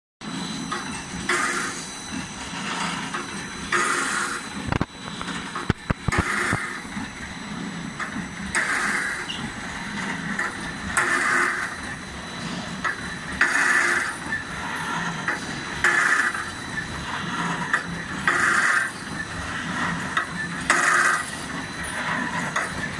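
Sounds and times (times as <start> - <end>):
machine noise bursts: 0.2 - 22.9
steady high whine: 0.2 - 22.9.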